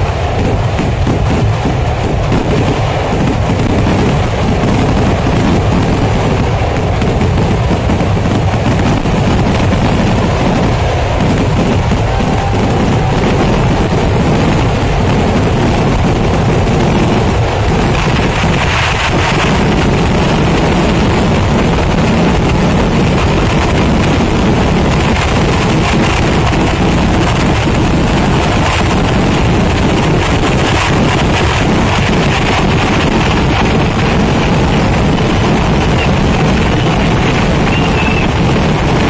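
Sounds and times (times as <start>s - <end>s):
dense firecracker barrage: 0.0s - 39.0s.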